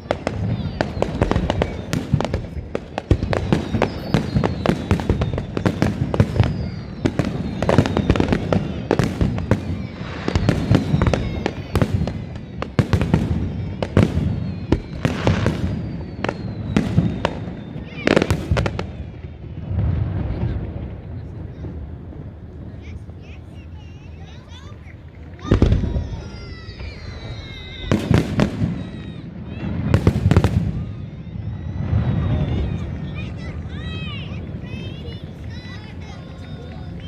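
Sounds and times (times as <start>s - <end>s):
firework whistles: 0.0s - 19.4s, 20.0s - 37.0s
fireworks bangs and booms: 0.0s - 37.0s.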